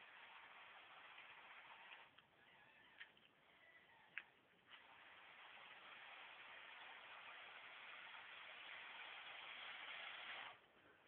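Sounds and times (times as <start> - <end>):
toy motors and gears running: 0.0 - 10.6.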